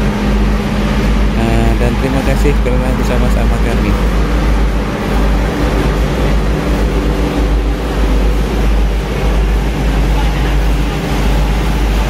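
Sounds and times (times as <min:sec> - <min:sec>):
diesel train engine idling: 0:00.0 - 0:12.0
faint hum: 0:00.0 - 0:12.0.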